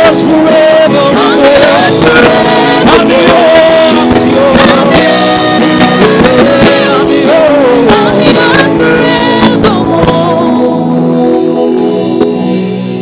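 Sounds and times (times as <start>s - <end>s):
percussion hits: 0.0s - 10.7s
person singing long notes: 0.0s - 11.1s
band backing with chords: 0.0s - 13.0s.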